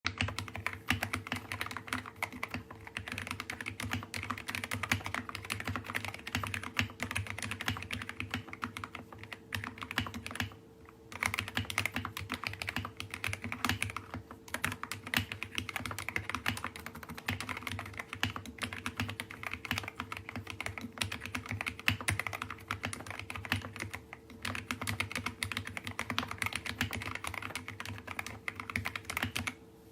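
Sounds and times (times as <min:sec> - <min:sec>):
fast mechanical keyboard typing: 0:00.1 - 0:29.6.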